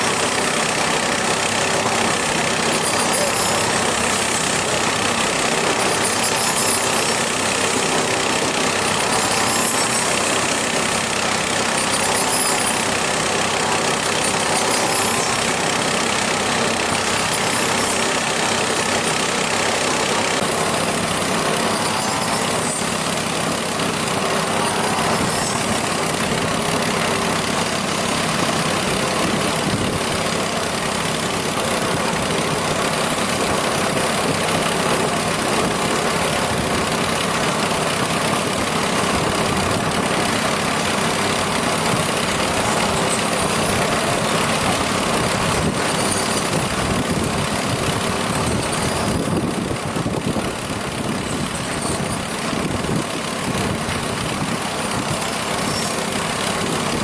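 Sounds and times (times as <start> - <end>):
motor running steadily: 0.0 - 57.0.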